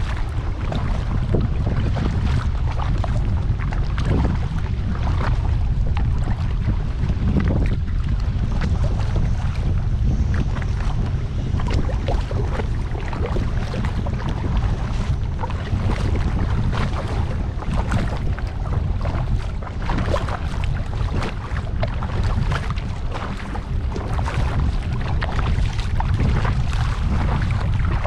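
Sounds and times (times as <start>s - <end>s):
water lapping against a kayak: 0.0s - 28.0s
wind buffeting microphone: 0.0s - 28.0s.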